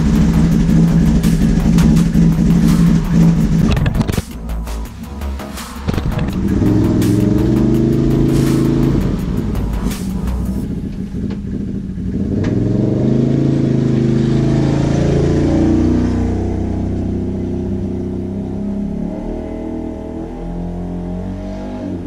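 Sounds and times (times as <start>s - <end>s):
atv engine accelerating: 0.0s - 22.0s.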